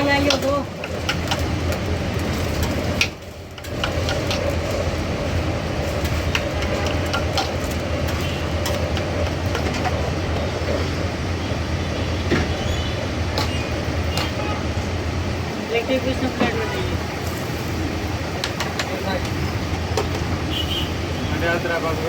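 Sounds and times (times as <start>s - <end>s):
street stall low rumble: 0.0s - 22.0s.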